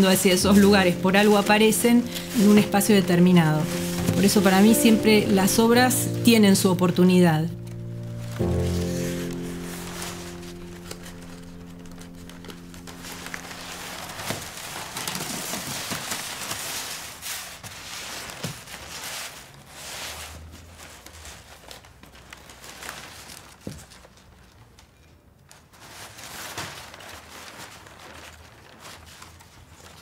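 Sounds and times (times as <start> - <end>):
paper rustling and crinkling: 0.0 - 30.0.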